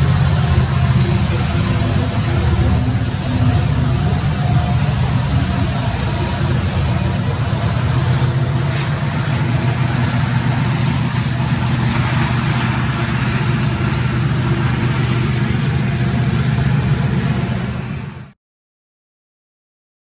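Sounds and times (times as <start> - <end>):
diesel locomotive engine drone: 0.0 - 18.4
train rushing noise: 0.0 - 18.4.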